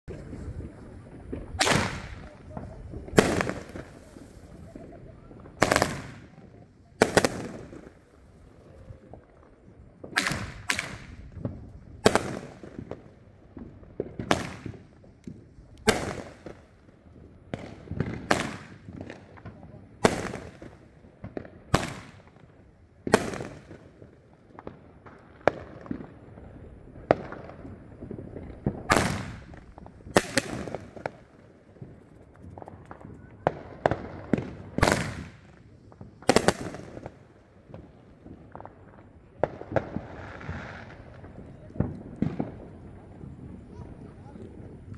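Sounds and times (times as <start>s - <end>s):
fireworks bangs: 0.1s - 44.9s
fireworks crackles: 0.1s - 44.9s.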